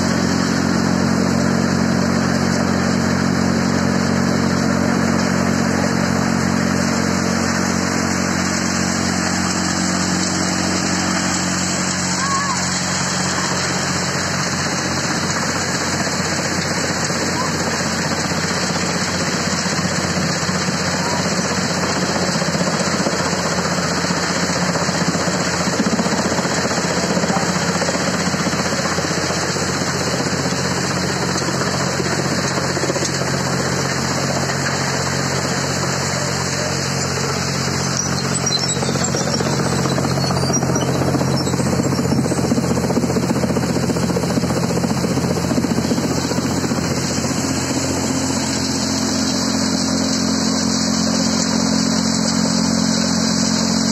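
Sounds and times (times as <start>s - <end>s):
tractor engine hum: 0.0s - 53.9s
thresher threshing: 0.1s - 53.9s.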